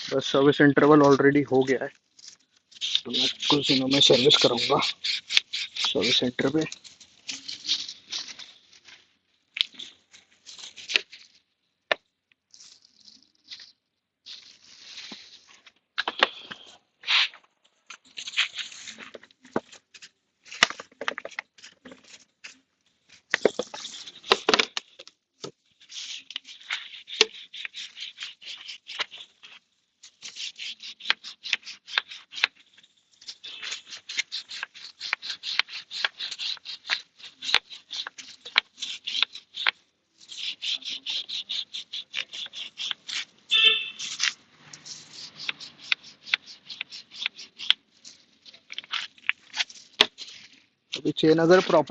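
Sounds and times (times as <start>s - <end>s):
brush scrubbing a chain: 0.0s - 11.4s, 12.5s - 15.7s, 16.4s - 51.9s.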